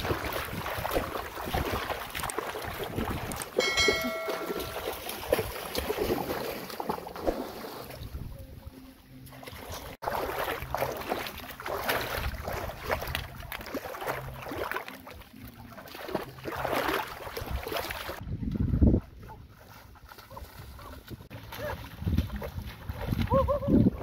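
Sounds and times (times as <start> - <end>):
water splashing from wading: 0.0 - 24.0.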